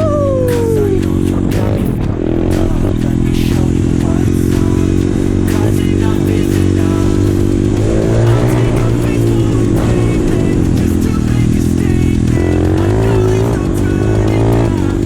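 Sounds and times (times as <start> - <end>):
motorbike engine running: 0.0 - 15.0.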